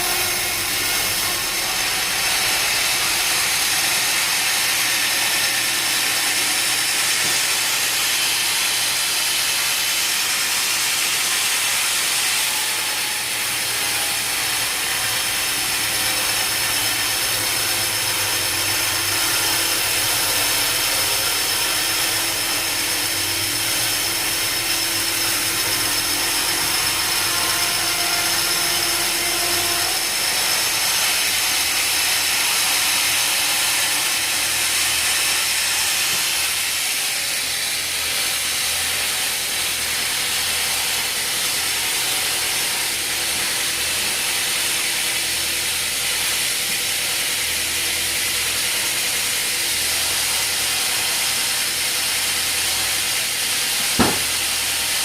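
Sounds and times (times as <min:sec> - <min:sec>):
power saw cutting wood: 0:00.0 - 0:55.0.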